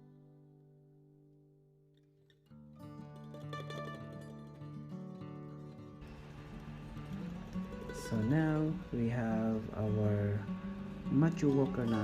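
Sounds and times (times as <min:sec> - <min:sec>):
acoustic guitar plucked notes: 0:02.4 - 0:12.0.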